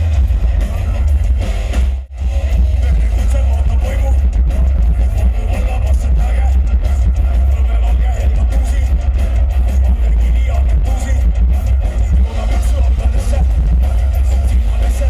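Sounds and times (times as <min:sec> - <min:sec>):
live metal band playing: 0:00.0 - 0:15.0.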